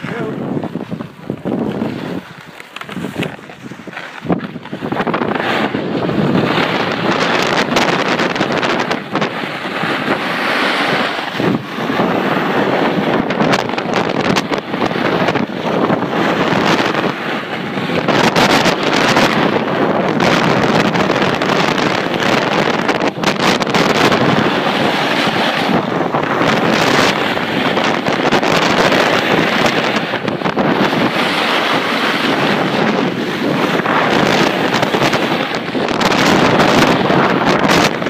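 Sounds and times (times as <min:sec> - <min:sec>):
wind buffeting microphone: 0:00.0 - 0:38.0
ski edges scraping snow: 0:00.1 - 0:18.0, 0:18.6 - 0:38.0.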